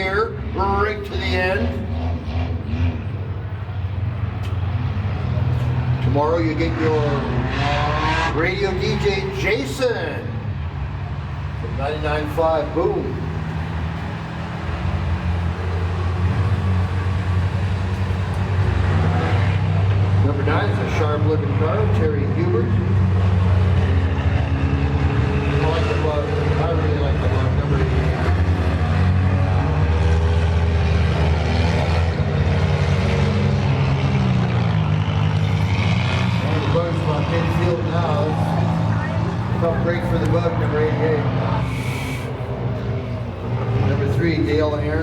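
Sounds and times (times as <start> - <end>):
racing car engines: 0.0 - 45.0.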